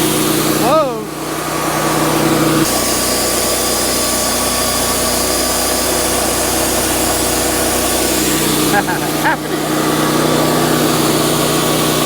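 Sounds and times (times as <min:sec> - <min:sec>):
sawmill engine and band saw running: 0:00.0 - 0:12.0.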